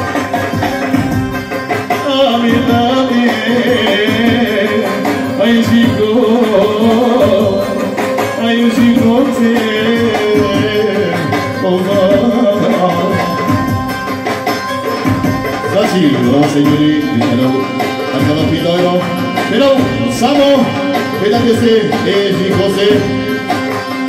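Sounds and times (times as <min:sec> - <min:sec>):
electronic keyboard with percussion: 0:00.0 - 0:24.0
man singing into microphone: 0:01.7 - 0:14.0, 0:15.6 - 0:24.0.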